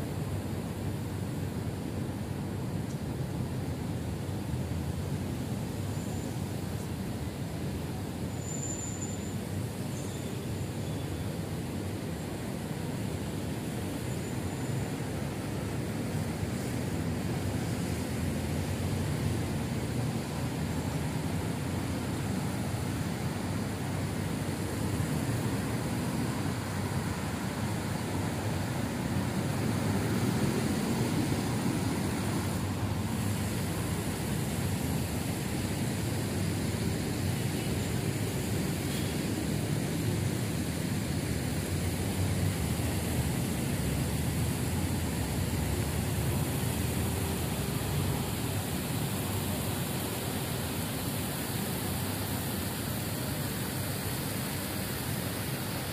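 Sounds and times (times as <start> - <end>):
distant road traffic rumble: 0.0 - 55.9.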